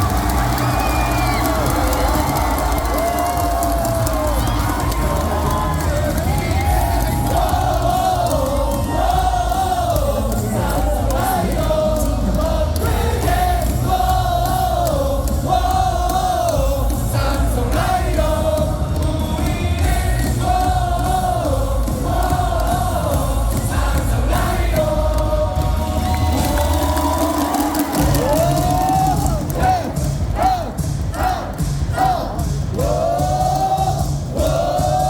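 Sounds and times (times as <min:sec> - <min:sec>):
crowd singing a cheer song: 0:00.0 - 0:35.0
loud amplified music: 0:00.0 - 0:35.0.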